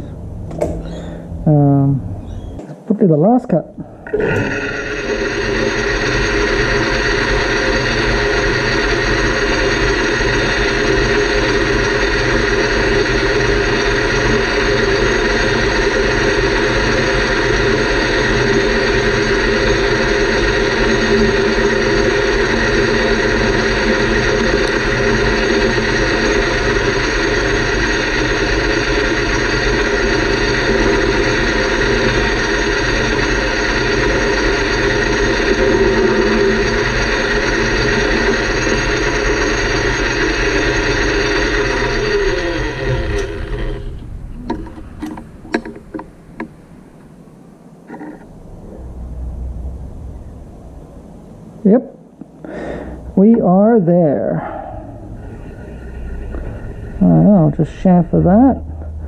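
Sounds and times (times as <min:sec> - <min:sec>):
metal lathe running: 0:03.9 - 0:59.0.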